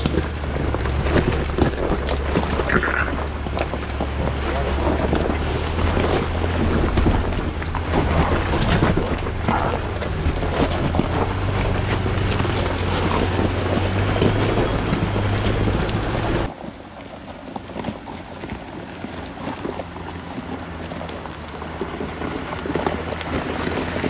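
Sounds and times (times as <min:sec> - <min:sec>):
off-road vehicle engine drone: 0:00.0 - 0:24.0.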